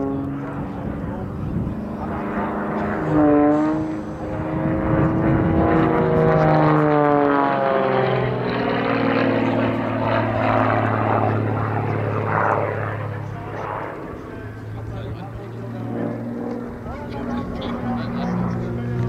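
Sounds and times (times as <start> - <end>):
propeller plane engine in flight: 0.0 - 19.0.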